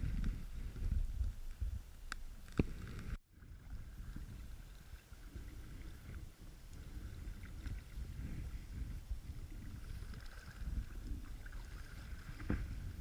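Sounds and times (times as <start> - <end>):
kayak paddling in water: 0.0 - 13.0
wind on microphone: 0.0 - 13.0.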